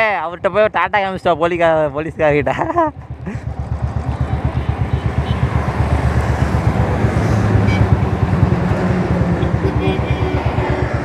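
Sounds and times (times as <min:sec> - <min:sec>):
motorcycle engine running: 0:00.3 - 0:11.0.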